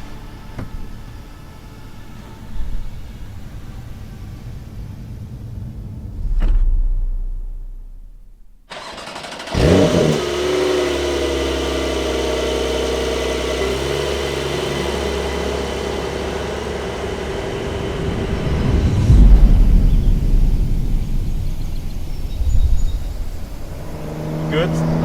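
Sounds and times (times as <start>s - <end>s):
car engine idling: 0.0s - 25.0s
car engine starting: 0.0s - 25.0s.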